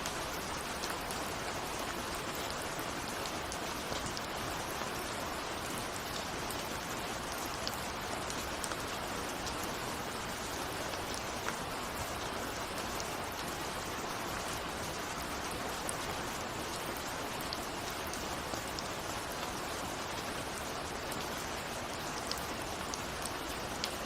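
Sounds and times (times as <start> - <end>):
rain hissing: 0.0 - 24.0.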